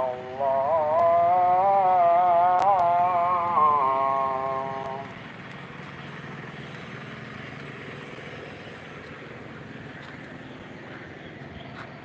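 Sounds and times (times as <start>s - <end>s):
low even hum: 0.0s - 12.0s.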